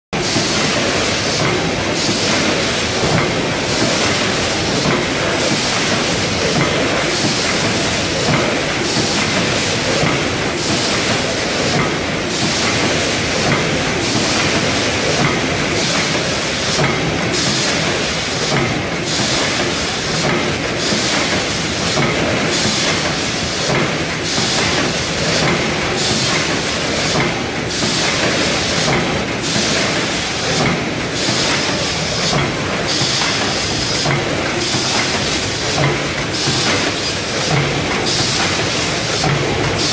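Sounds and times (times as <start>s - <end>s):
machine mechanical clatter: 0.2s - 39.9s.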